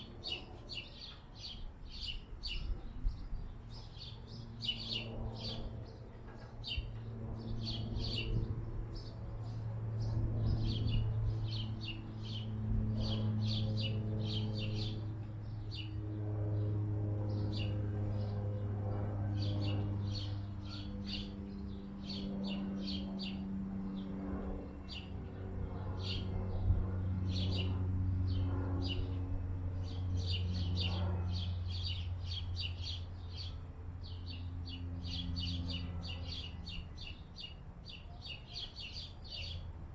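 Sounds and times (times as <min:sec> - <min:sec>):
small birds chirping: 0:00.0 - 0:39.7
steady low hum: 0:00.0 - 0:39.9.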